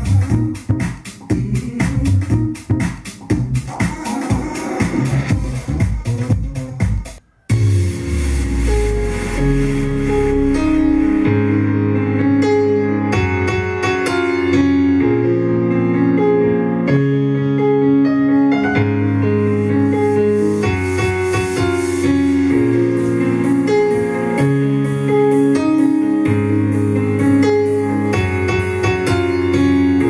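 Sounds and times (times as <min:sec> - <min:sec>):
keyboard music with piano chords: 0:00.0 - 0:30.0.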